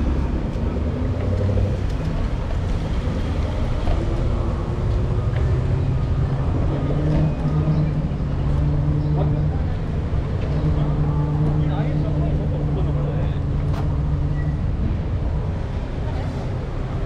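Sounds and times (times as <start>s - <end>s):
road and wind rumble: 0.0s - 17.0s.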